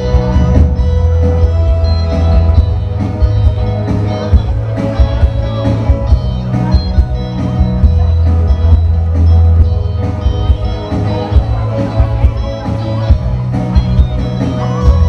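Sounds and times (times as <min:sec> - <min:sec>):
bass line: 0:00.0 - 0:15.0
electronic keyboards rock song: 0:00.0 - 0:15.0
steady drum beat: 0:00.0 - 0:15.0.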